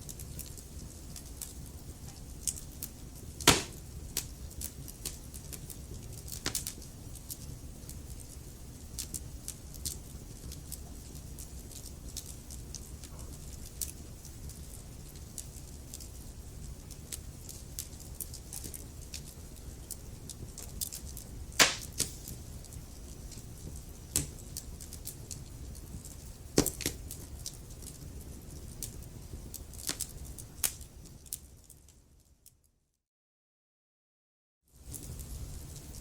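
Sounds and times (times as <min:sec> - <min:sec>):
low rumble of flames: 0:00.0 - 0:32.3, 0:34.8 - 0:36.0
wood fire crackling and popping: 0:00.0 - 0:32.6, 0:34.8 - 0:36.0.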